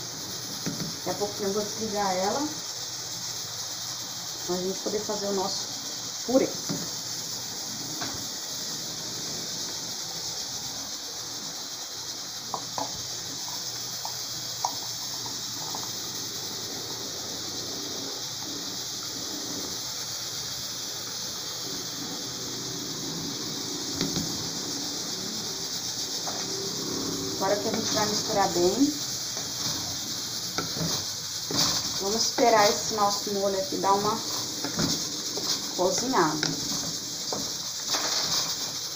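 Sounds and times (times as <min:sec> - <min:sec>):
pressure cooker hissing steam: 0:00.0 - 0:38.9.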